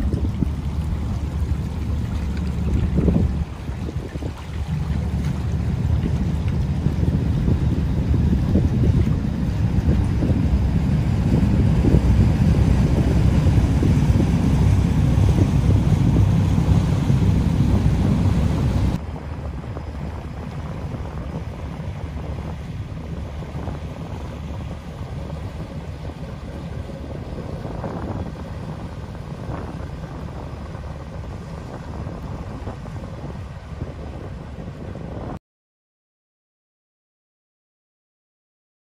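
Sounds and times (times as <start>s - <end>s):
ship engine and propeller rumbling: 0.0s - 35.4s
wind on microphone: 0.0s - 35.4s.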